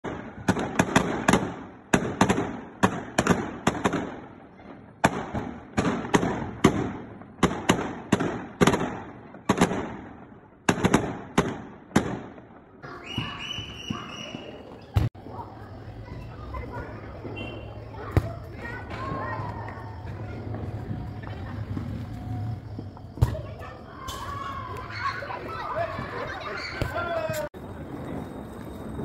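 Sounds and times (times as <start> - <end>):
fireworks bursting with echoes: 0.0 - 29.0.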